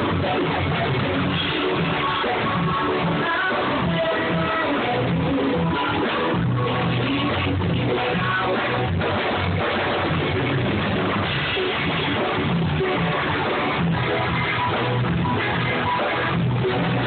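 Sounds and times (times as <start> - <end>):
drums: 0.0 - 17.0
rock music: 0.0 - 17.0
strummed guitar: 0.0 - 17.0.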